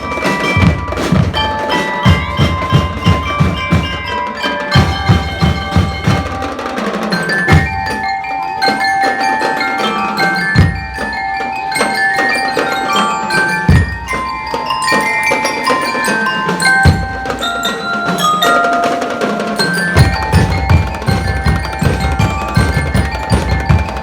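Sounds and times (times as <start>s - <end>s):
bell lyres ringing melody: 0.0s - 24.0s
snare drum beats: 0.0s - 24.0s.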